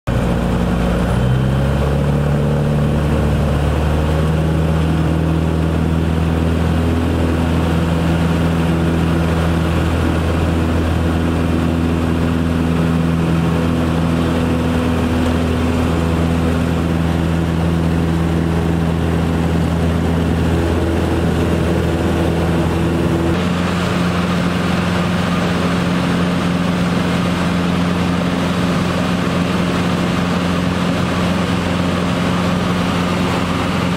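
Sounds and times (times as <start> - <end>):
aircraft cabin engine drone: 0.1 - 33.9.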